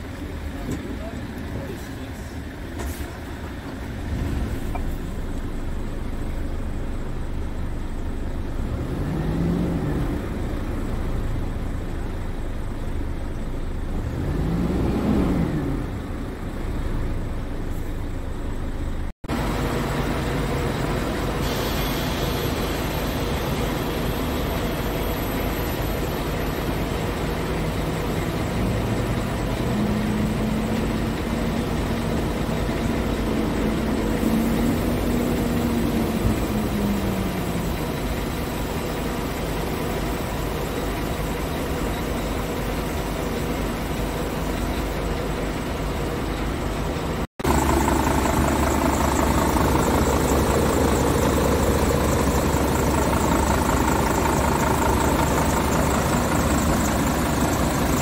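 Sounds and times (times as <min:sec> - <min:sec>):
truck diesel engine idling and revving: 0:00.0 - 0:58.0.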